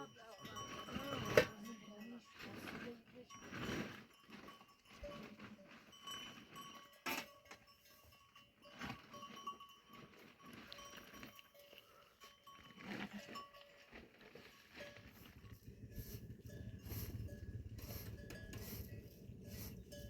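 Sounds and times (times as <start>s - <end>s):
animal bells ringing: 0.0s - 20.0s.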